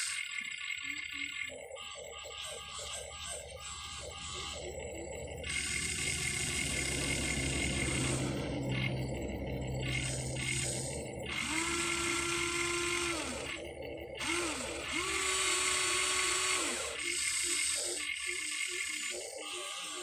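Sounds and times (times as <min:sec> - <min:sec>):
electric gear motors whining: 0:00.0 - 0:20.0.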